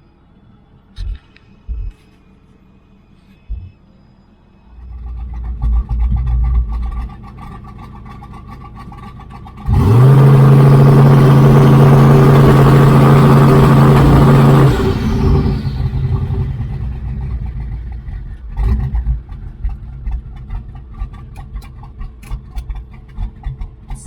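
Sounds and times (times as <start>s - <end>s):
car engine idling and revving: 4.6s - 24.0s.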